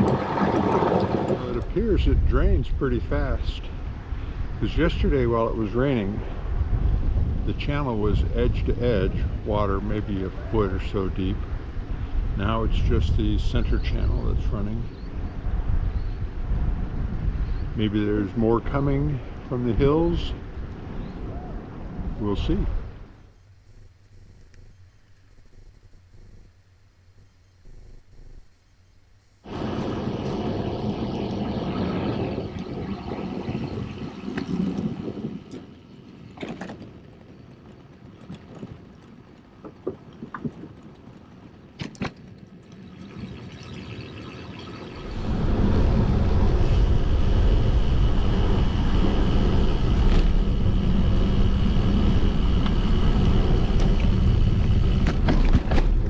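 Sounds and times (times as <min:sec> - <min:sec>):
wind rushing over microphone: 0:00.0 - 0:41.8, 0:42.6 - 0:56.0
bicycle road noise: 0:00.0 - 0:56.0.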